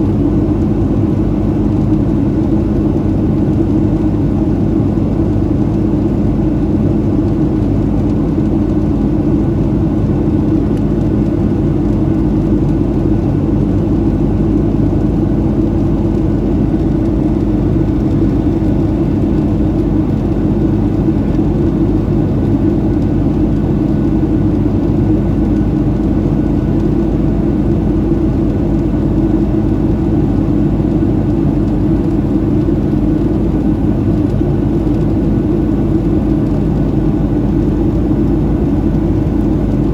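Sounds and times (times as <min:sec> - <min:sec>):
constant hum: 0:00.0 - 0:39.9
jet engine cabin rumble: 0:00.0 - 0:39.9.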